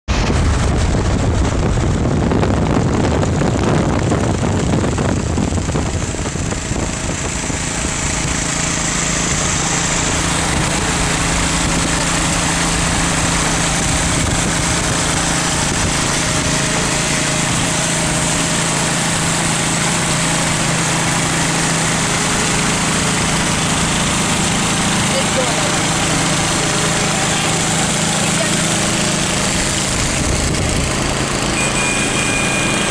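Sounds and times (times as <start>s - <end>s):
engine drone: 0.0s - 32.9s
wind and road noise: 0.0s - 32.9s
wind buffeting on microphone: 0.1s - 25.1s, 25.7s - 31.6s.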